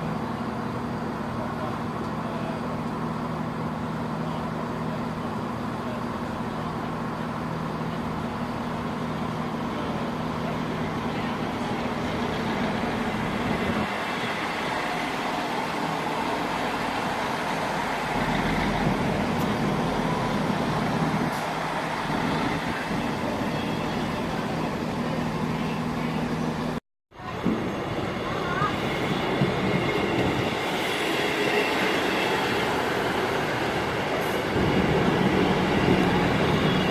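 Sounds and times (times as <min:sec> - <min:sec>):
diesel train engine running: 0:00.0 - 0:36.9.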